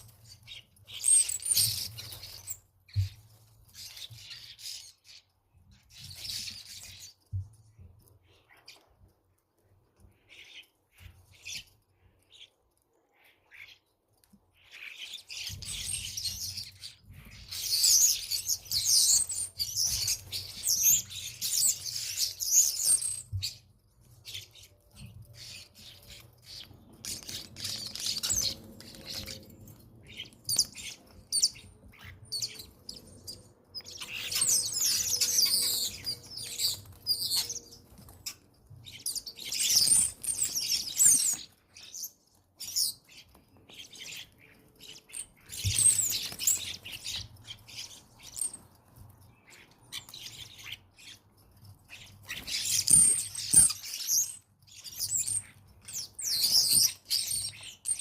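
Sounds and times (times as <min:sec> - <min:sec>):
starlings chattering: 0:00.0 - 0:08.9, 0:14.6 - 0:58.0.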